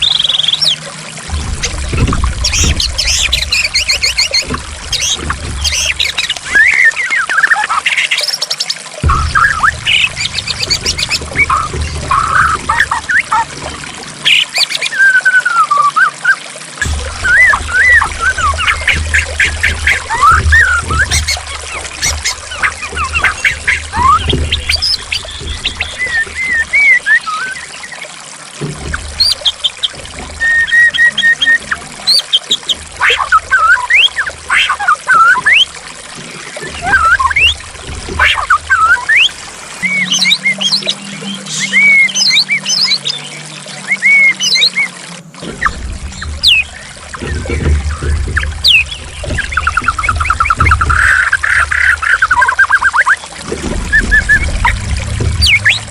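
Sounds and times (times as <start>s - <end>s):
bird singing trills and whistles: 0.0s - 0.8s, 1.6s - 13.5s, 14.2s - 28.0s, 29.2s - 35.7s, 36.6s - 37.6s, 38.2s - 45.0s, 45.6s - 55.9s
flowing water: 0.0s - 55.9s.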